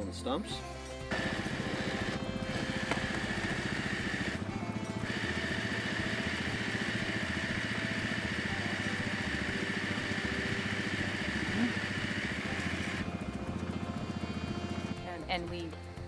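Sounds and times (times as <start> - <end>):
atv engine running: 0.5 - 16.0
winch whining: 0.7 - 15.8.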